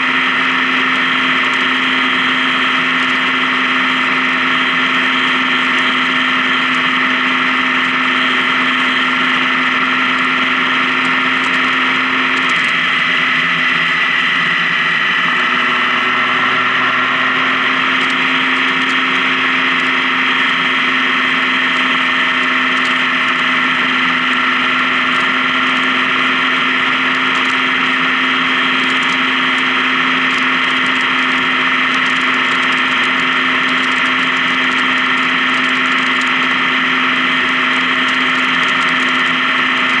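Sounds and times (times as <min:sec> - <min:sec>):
motorcycle engine cruising: 0:00.0 - 0:40.0
road and wind noise: 0:00.0 - 0:40.0.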